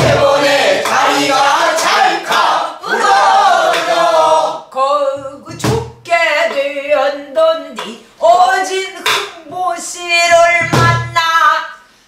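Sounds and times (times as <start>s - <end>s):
group singing in unison: 0.0s - 9.9s.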